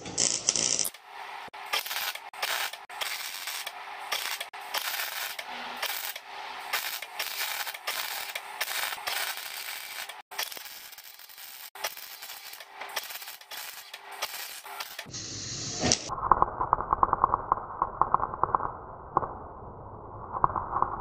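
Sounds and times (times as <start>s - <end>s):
welding arc crackling: 0.0s - 19.5s.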